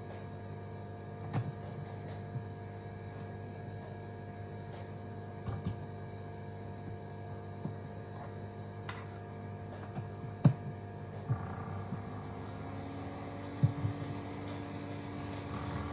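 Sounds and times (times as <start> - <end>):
electrical hum: 0.0 - 15.9.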